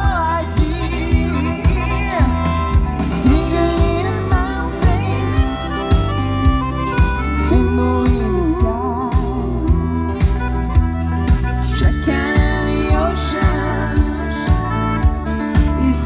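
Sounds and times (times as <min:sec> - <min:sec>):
country band playing: 0:00.0 - 0:16.0.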